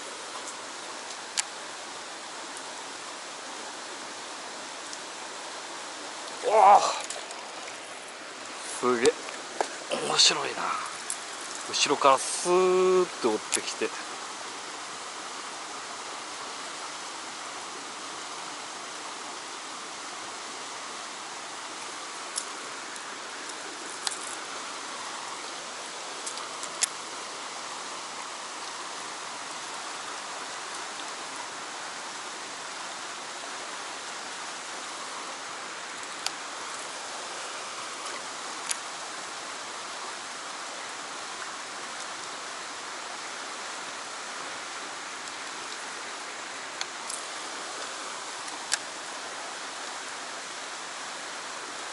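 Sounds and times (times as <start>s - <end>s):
stream rushing through rocks: 0.0s - 51.9s.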